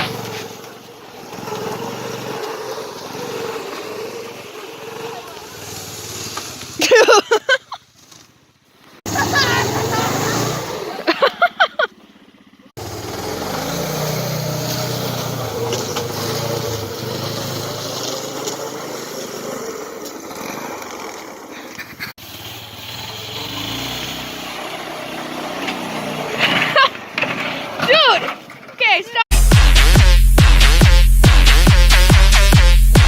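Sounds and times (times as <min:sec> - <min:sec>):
small snowmobile engine running: 0:00.0 - 0:07.2, 0:09.0 - 0:28.7.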